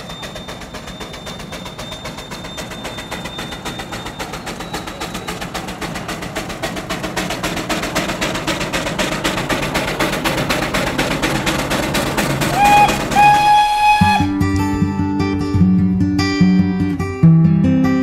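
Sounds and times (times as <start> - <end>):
fast clatter of sharp beats: 0.0 - 14.8.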